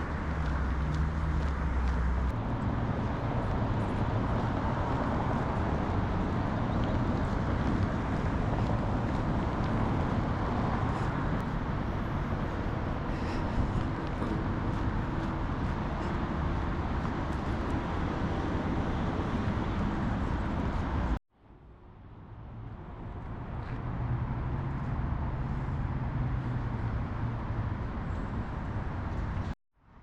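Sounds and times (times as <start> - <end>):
passing vehicle engine hum: 0.0 - 21.2, 22.0 - 29.6
road traffic noise: 0.0 - 30.0.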